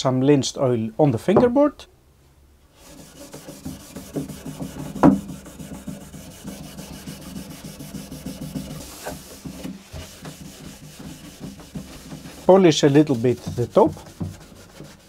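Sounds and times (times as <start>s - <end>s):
cloth rubbing wood: 2.7s - 15.0s.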